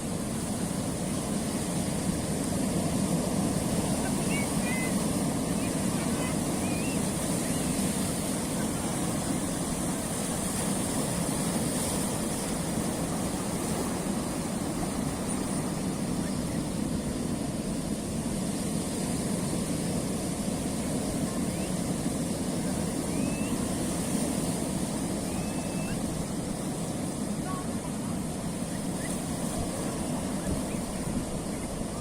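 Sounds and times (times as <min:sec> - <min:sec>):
waves washing over rocks: 0:00.0 - 0:32.0.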